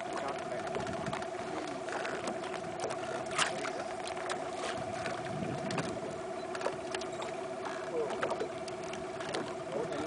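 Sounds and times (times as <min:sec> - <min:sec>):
boat motor droning: 0:00.0 - 0:10.0
water splashing at hull: 0:00.0 - 0:10.0.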